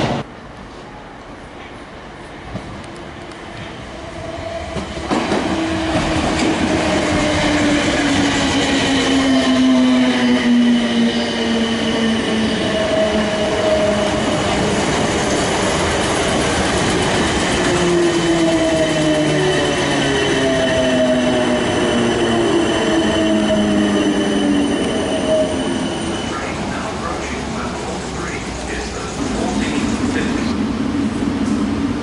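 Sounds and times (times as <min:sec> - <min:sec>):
train wheel-on-rail noise: 0:00.0 - 0:32.0.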